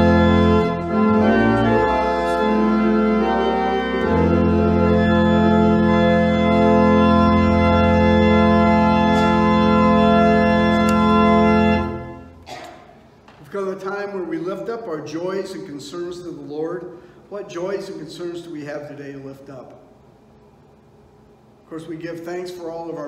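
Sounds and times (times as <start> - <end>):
church organ chords: 0.0 - 12.6, 13.6 - 23.0.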